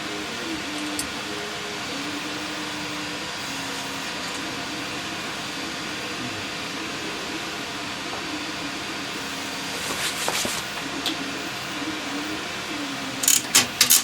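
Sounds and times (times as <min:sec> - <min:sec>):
faint wavering tones: 0:00.0 - 0:09.8, 0:10.6 - 0:13.4
fan air hiss: 0:00.0 - 0:14.0.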